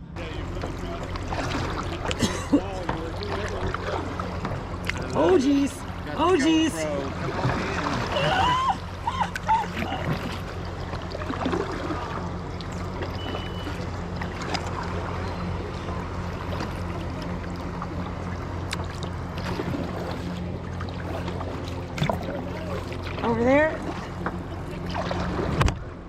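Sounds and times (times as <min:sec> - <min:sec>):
steady low hum: 0:00.0 - 0:26.0
water splashing around kayak: 0:00.0 - 0:26.0.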